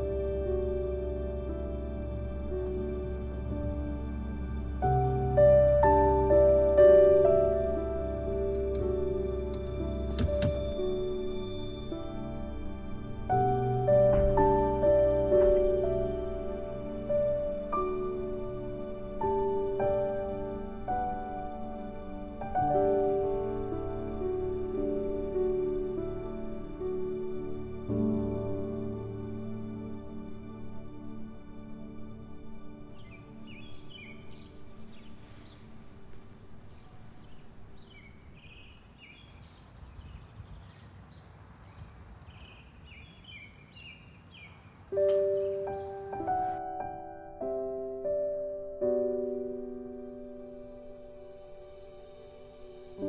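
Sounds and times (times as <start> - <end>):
soft keyboard background music: 0.0 - 40.1, 42.5 - 53.0.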